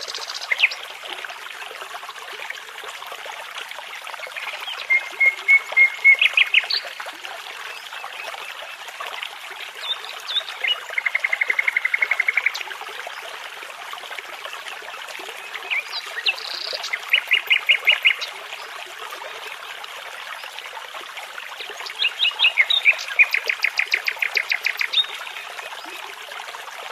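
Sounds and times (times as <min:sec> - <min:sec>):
babbling brook: 0:00.0 - 0:26.9.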